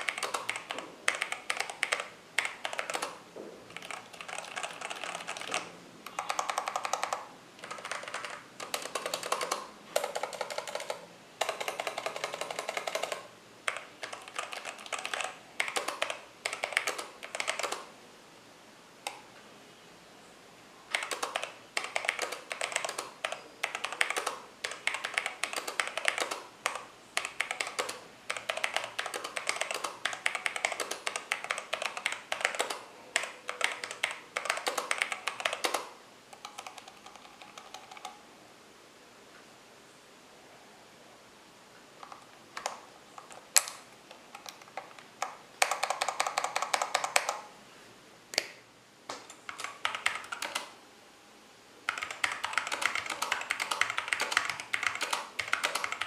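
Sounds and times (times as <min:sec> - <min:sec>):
mechanical keyboard typing: 0:00.0 - 0:17.9, 0:20.9 - 0:38.2, 0:42.0 - 0:47.5, 0:49.2 - 0:50.8, 0:51.9 - 0:56.0.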